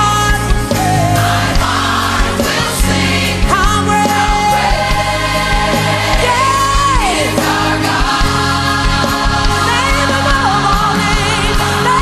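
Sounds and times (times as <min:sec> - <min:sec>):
worship song with band: 0:00.0 - 0:12.0.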